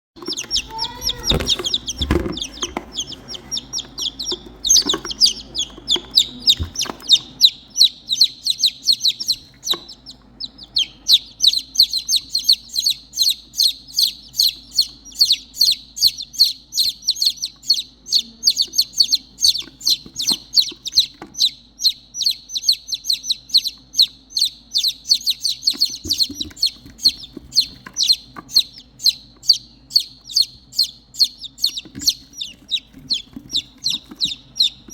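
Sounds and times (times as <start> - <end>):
chicks peeping loudly: 0.2 - 34.9.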